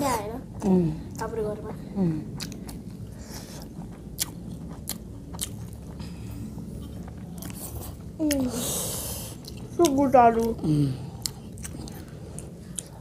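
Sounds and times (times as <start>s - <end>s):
chewing food: 2.1s - 13.0s.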